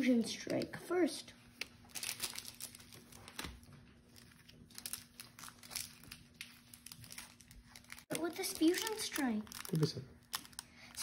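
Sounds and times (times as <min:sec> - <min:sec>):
foil wrapper crinkling: 0:01.6 - 0:11.0.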